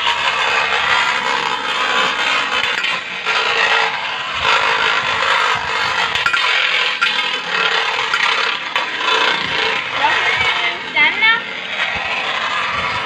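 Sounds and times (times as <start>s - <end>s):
spinning tops whirring on metal: 0.0s - 13.0s.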